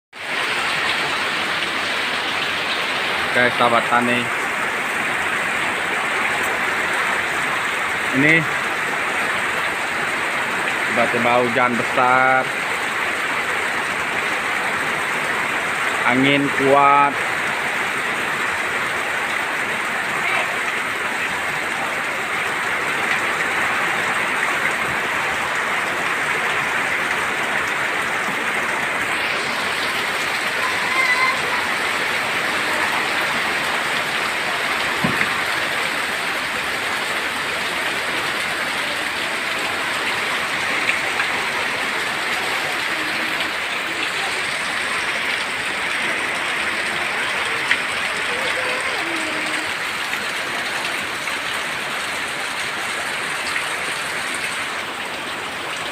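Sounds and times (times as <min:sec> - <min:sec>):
heavy rain hissing: 0:00.2 - 0:55.9.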